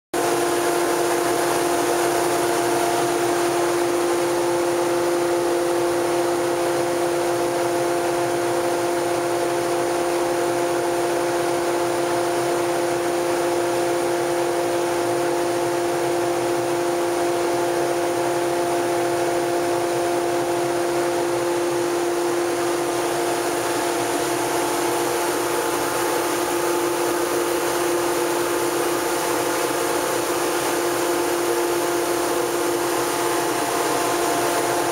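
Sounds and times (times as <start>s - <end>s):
extraction fan whirring: 0.2s - 34.9s.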